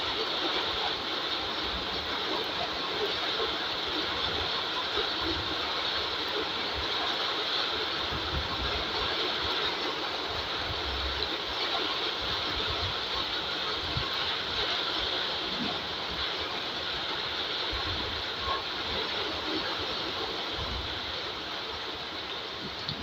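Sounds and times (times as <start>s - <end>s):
heavy rain on wet ground: 0.0s - 23.0s.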